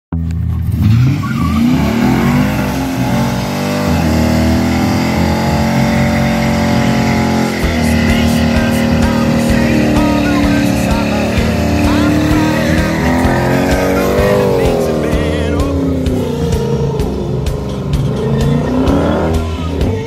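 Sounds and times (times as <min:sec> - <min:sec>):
car engine revving hard: 0:00.5 - 0:20.0
tyres spinning: 0:00.8 - 0:20.0.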